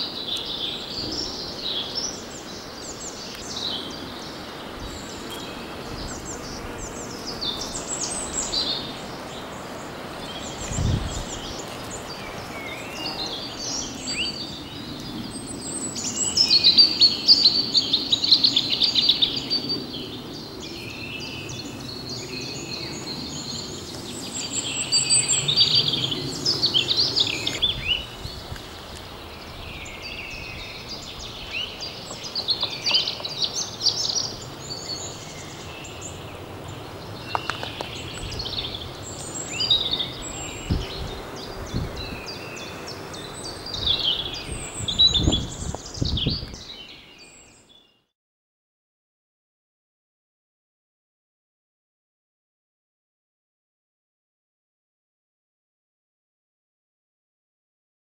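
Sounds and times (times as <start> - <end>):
songbirds singing and calling: 0.0 - 48.1.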